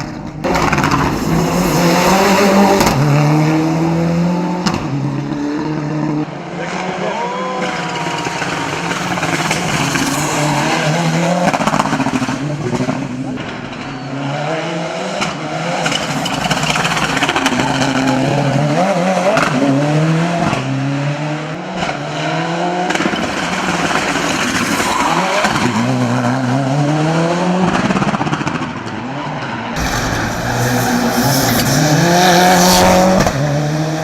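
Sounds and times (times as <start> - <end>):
race car engine revving: 0.4 - 28.6, 29.4 - 34.0.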